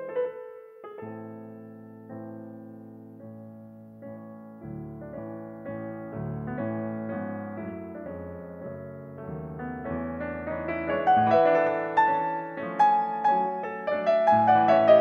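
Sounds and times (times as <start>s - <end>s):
solo classical piano: 0.0s - 15.0s.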